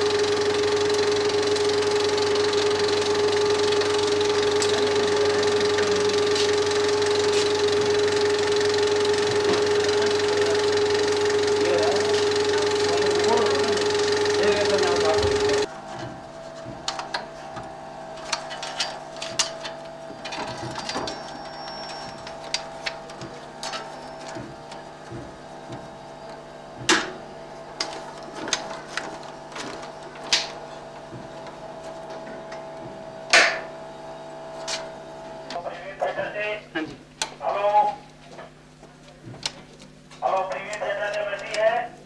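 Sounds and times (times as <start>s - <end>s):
film projector humming: 0.0s - 42.0s.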